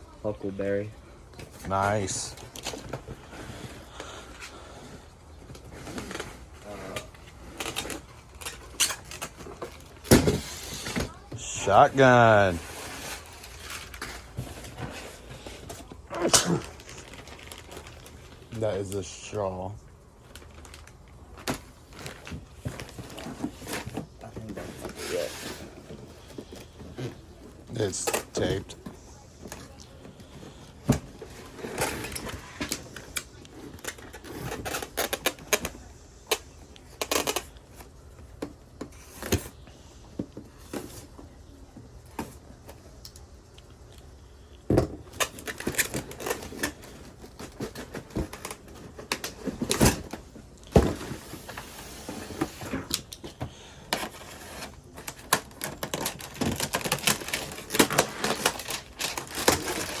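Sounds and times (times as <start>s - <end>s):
tape and packaging crinkling: 1.3s - 60.0s.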